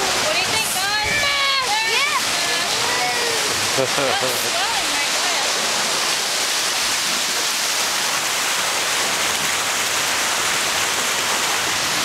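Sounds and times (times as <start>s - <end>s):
surf rushing through rocks: 0.0s - 12.0s.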